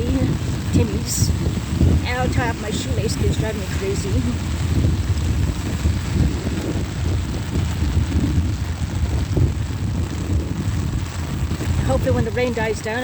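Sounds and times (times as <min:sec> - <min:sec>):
heavy rain: 0:00.0 - 0:13.0
wind buffeting microphone: 0:00.0 - 0:13.0.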